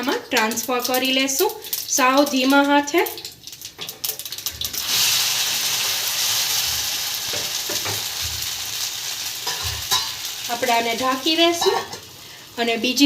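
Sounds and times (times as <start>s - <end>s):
batter sizzling in hot oil: 0.0s - 13.0s.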